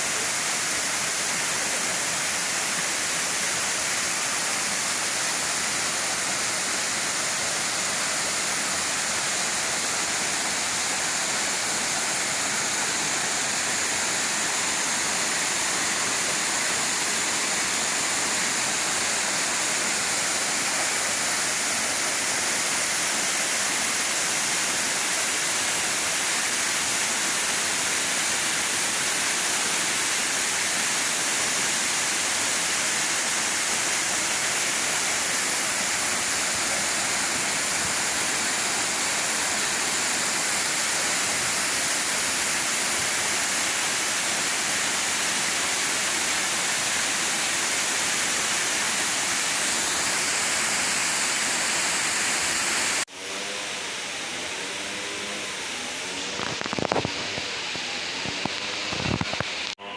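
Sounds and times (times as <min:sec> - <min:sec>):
waterfall rushing: 0:00.0 - 0:53.2.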